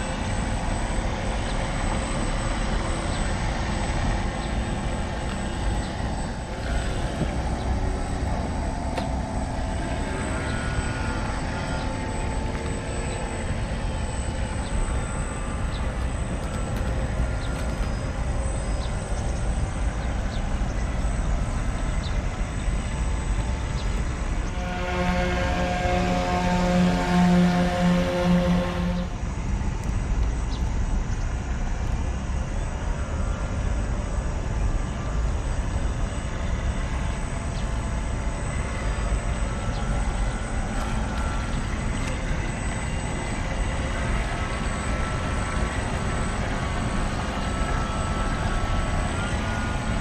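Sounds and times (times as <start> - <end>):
model boat motors whirring: 0.0 - 29.2, 35.1 - 50.0.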